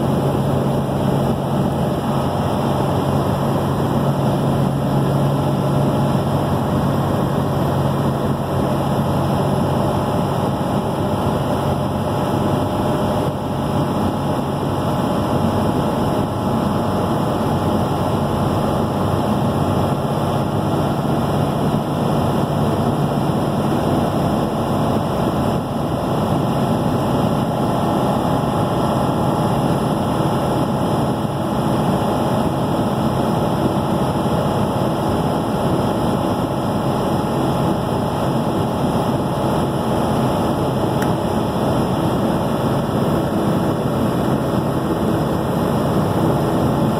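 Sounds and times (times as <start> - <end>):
road and engine noise inside vehicle: 0.0 - 46.9.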